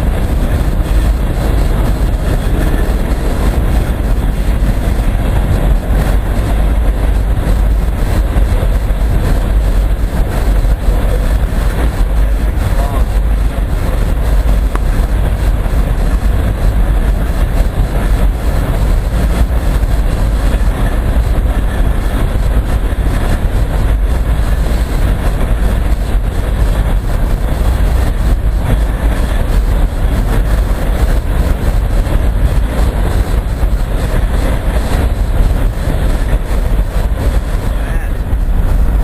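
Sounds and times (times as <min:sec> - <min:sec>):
freight train rumbling past: 0:00.0 - 0:39.0.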